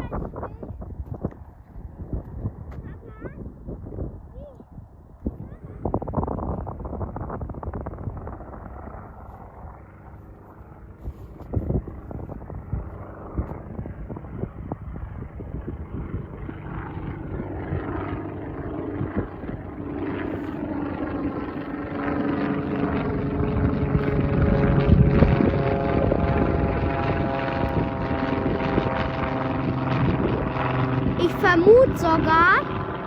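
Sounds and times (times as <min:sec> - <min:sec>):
aircraft engines running: 0:00.0 - 0:33.0.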